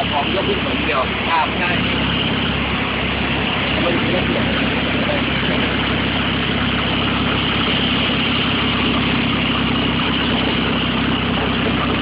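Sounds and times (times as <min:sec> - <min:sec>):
vehicle engine running: 0:00.0 - 0:12.0
water rushing and splashing: 0:00.0 - 0:12.0.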